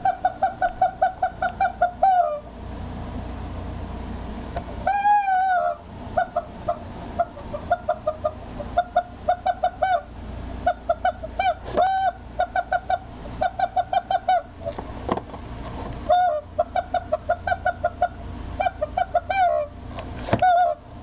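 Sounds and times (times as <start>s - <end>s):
rubber chicken toy squawking: 0.0s - 2.5s, 4.8s - 14.8s, 16.1s - 20.8s.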